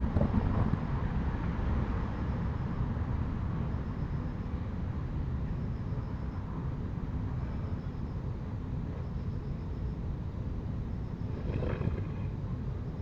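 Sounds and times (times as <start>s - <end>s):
low rumble of urban noise: 0.0s - 13.0s.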